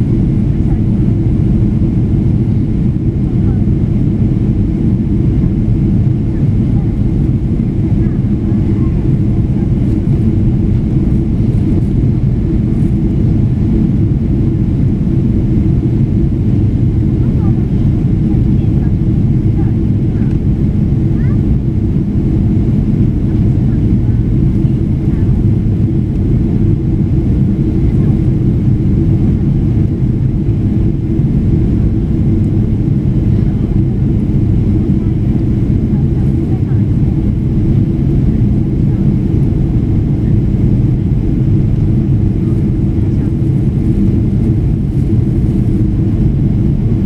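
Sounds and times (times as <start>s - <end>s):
jet airliner cabin drone: 0.0s - 47.0s.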